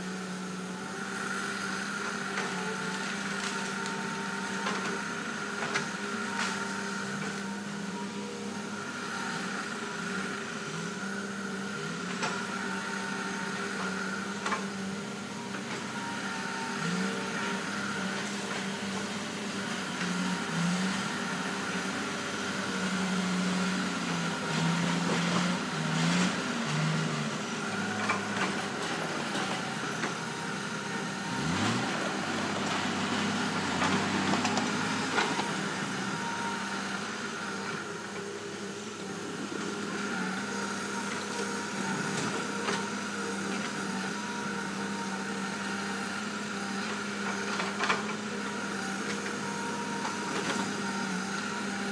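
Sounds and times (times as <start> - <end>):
diesel earthmover engine running: 0.0 - 51.9.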